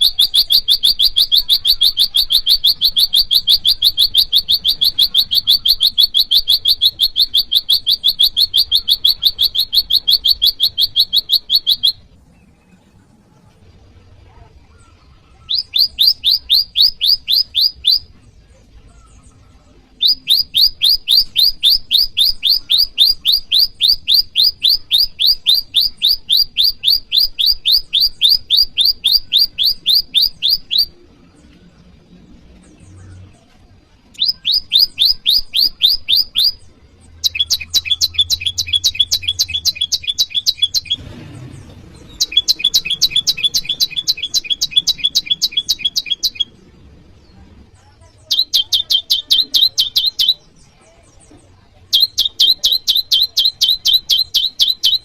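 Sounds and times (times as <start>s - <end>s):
bird singing high chirps: 0.0s - 55.0s.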